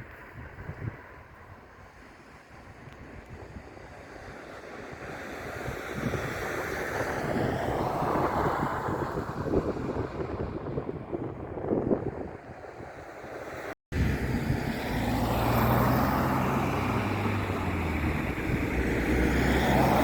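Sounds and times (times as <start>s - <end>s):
wind gusts on microphone: 0.0s - 20.0s.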